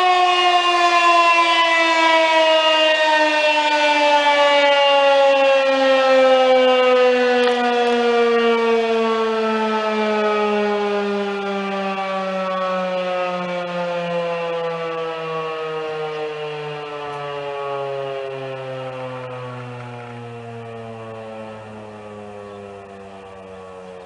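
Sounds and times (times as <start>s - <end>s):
outdoor warning siren winding down: 0.0s - 24.0s.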